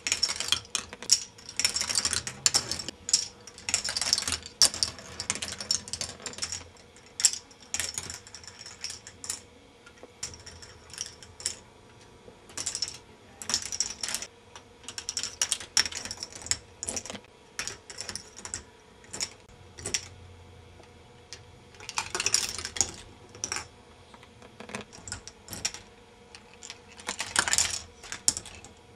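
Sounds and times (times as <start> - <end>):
plastic balls clattering on track: 0.0 - 9.4, 12.5 - 20.2, 21.3 - 23.7, 24.4 - 28.8
faint steady hum: 0.0 - 28.9.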